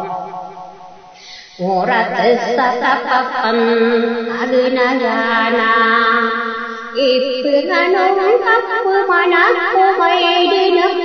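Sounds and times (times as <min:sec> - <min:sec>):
person chanting: 0:00.0 - 0:00.3, 0:01.5 - 0:11.0.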